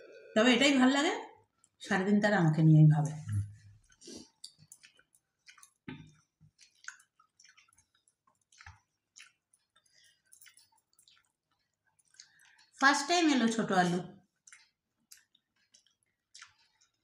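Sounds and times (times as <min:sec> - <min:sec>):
faint chewing and mouth clicks: 0:01.4 - 0:01.8, 0:03.0 - 0:17.0.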